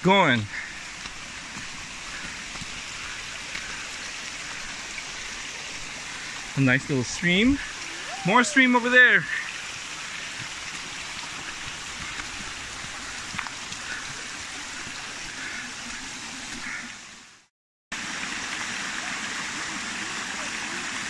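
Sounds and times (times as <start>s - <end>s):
small stream rushing: 0.0s - 21.0s.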